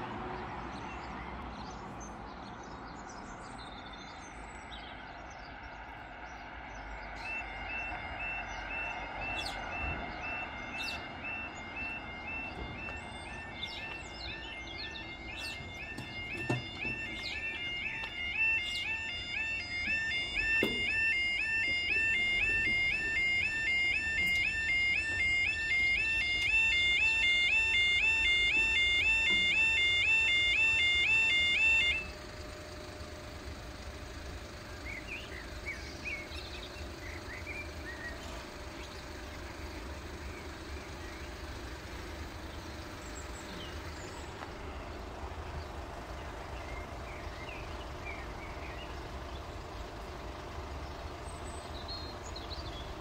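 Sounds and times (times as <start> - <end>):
level crossing alarm warbling: 7.2 - 51.2.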